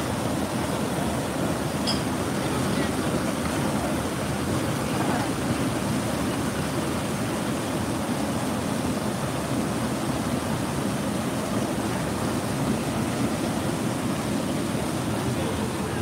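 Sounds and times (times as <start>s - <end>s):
churning whitewater: 0.0s - 16.0s
water pouring over dam spillway: 0.0s - 16.0s.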